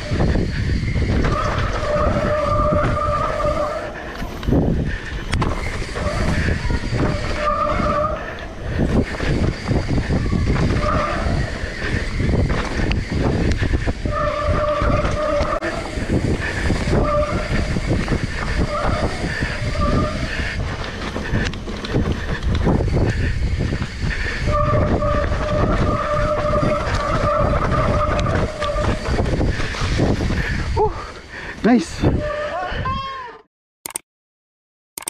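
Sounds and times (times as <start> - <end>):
bike chain and frame rattling: 0.0 - 31.4
bike tyres rolling over dirt: 0.0 - 31.5.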